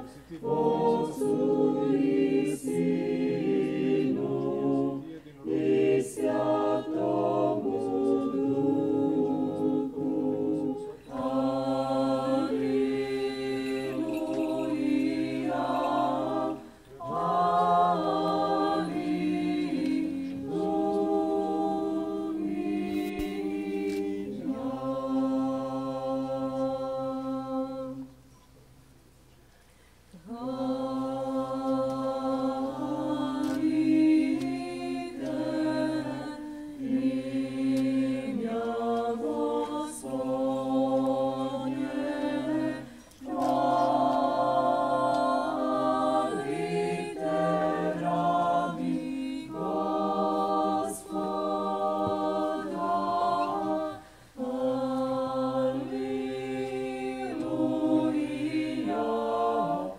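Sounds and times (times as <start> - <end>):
choir singing a cappella chant: 0.0 - 28.2, 30.1 - 59.9.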